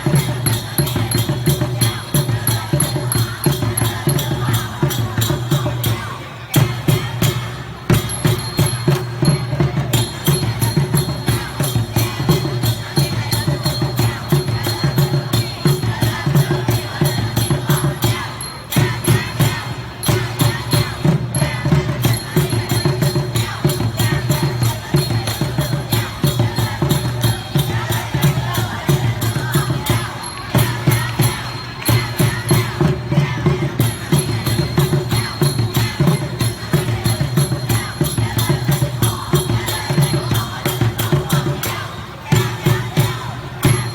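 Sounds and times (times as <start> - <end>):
crowd of voices: 0.0 - 43.9
music with fast percussive beat: 0.0 - 43.9.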